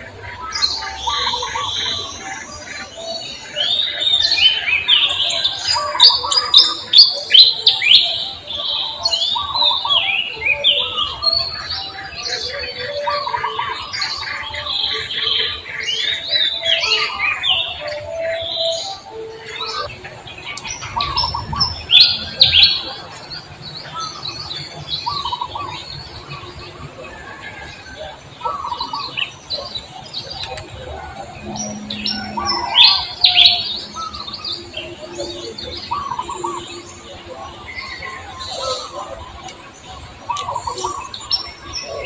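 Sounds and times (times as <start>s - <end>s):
high downward chirping calls: 0.0s - 26.8s, 27.6s - 42.0s.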